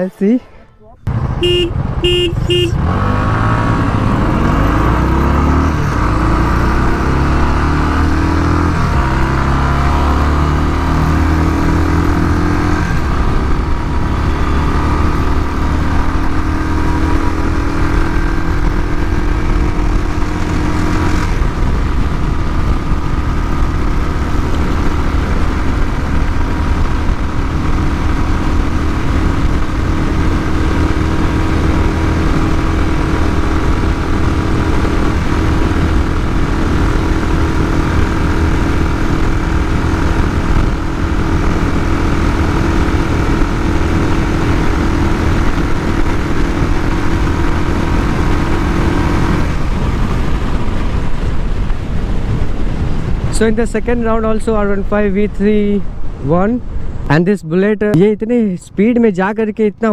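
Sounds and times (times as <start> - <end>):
motorcycle engine accelerating hard: 1.0 - 55.1.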